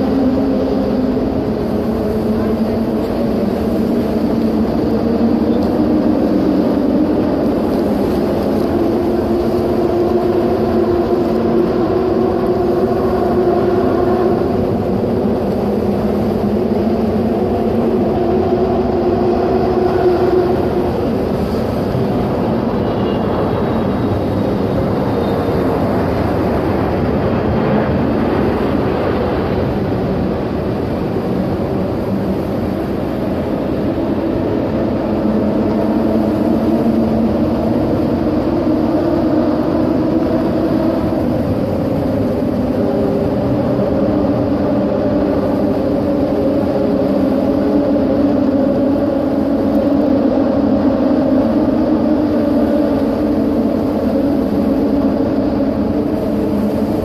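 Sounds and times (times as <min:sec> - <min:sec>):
tyres humming on road decking: 0:00.0 - 0:57.0.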